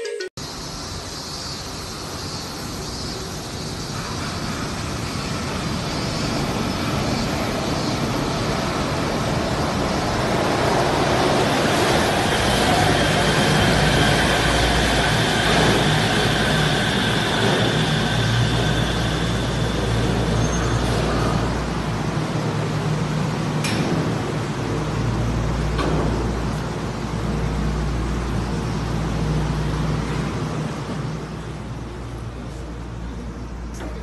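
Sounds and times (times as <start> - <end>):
monorail train running noise: 0.0 - 34.0.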